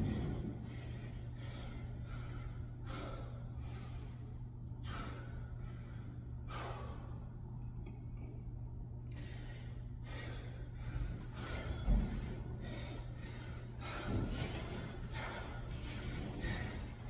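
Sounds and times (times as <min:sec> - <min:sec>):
man breathing hard: 0:00.0 - 0:07.5, 0:09.0 - 0:17.0
steady low hum: 0:00.0 - 0:17.0.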